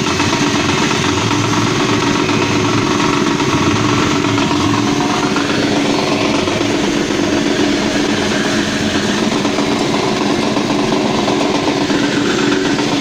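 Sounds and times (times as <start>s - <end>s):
dehulling machine drone: 0.0s - 13.0s
rushing noise of beans hulled: 0.0s - 13.0s.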